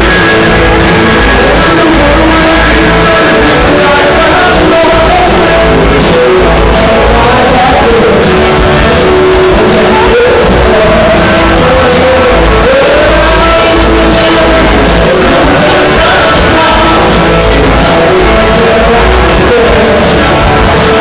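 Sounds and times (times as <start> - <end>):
live rock band playing: 0.0 - 21.0
person singing: 0.0 - 21.0.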